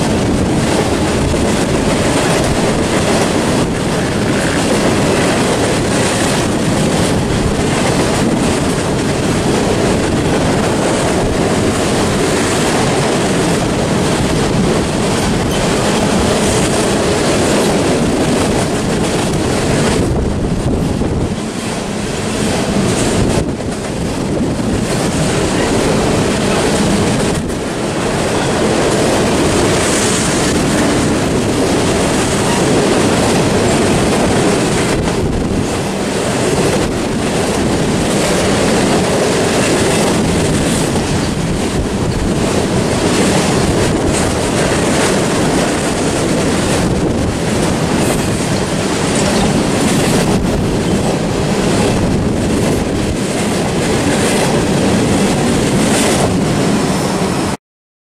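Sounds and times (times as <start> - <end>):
freight train wheels on rails: 0.0 - 57.6.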